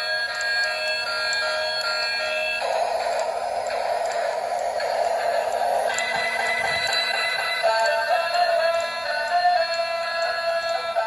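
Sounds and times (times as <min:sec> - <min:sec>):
synthesized background music: 0:00.0 - 0:11.0.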